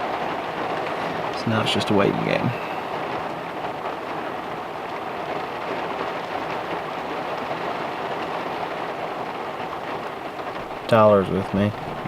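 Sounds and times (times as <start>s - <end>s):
heavy rain on a car roof: 0.0s - 12.0s.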